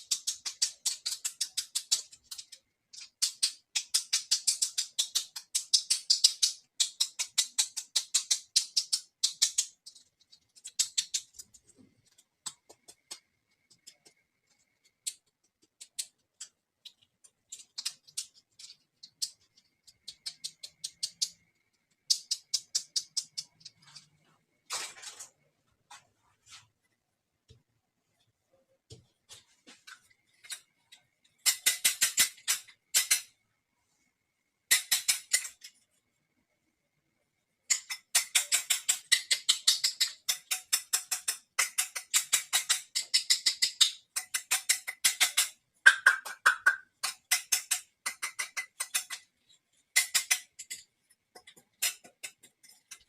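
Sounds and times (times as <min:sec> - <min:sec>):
toy pieces clicking and scratching: 0:00.0 - 0:24.2, 0:30.4 - 0:33.4, 0:34.7 - 0:35.8, 0:37.7 - 0:53.0.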